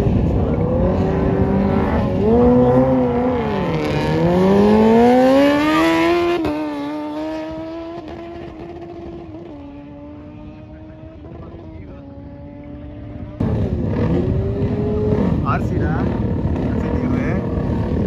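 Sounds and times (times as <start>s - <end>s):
drag racing engine revving: 0.0s - 18.0s.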